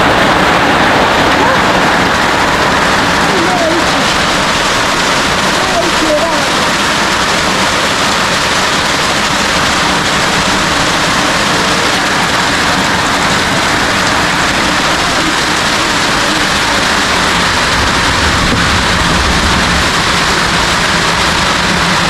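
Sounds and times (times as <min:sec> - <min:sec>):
heavy rain on a roof: 0:00.0 - 0:22.0.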